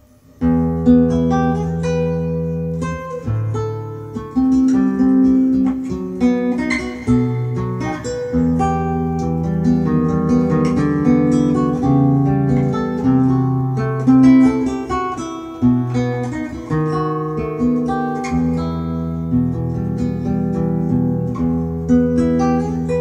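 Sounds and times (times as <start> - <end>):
acoustic guitar music over speakers: 0.0 - 23.0.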